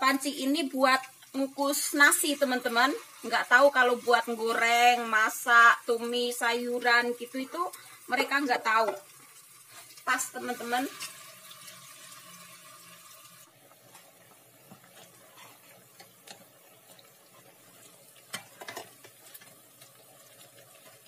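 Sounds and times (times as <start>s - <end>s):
oil sizzling in a pot: 0.0s - 21.0s.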